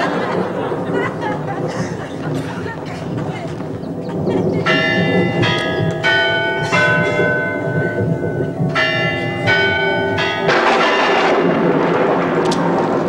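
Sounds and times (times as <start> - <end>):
rain: 0.0 - 13.0
thunder roll: 0.0 - 13.0
church bell ringing: 2.0 - 13.0.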